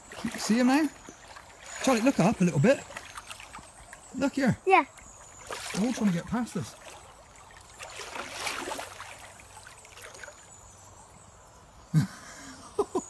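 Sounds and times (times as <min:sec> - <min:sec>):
water sloshing: 0:00.0 - 0:11.3
river water trickling: 0:00.0 - 0:13.0.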